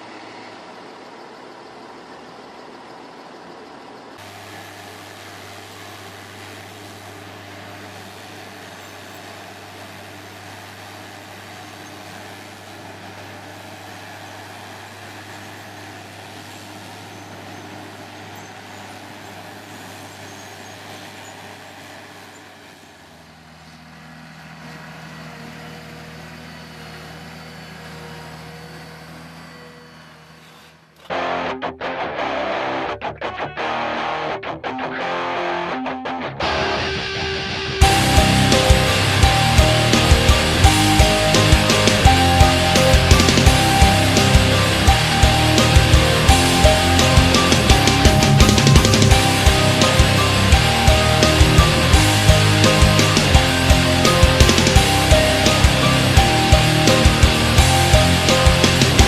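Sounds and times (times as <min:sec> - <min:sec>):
large engine running: 0:00.0 - 0:30.4, 0:36.4 - 0:59.0.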